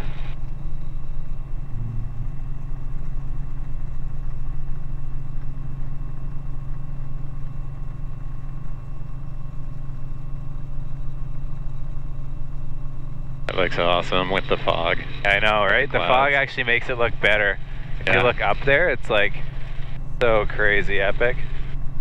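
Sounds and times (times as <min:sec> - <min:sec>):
faint high whine: 0:00.0 - 0:22.0
helicopter engine and rotor drone: 0:00.0 - 0:22.0.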